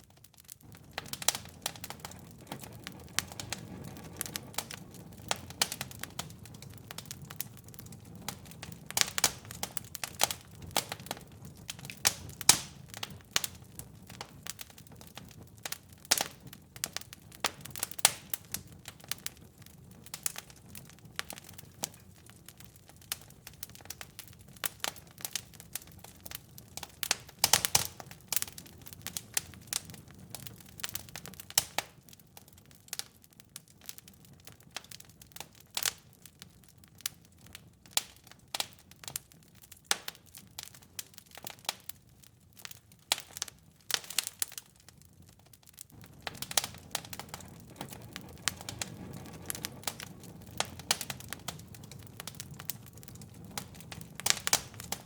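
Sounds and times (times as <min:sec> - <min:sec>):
fire crackling and popping: 0:00.0 - 0:55.0
low steady rush of fire: 0:00.0 - 0:55.0.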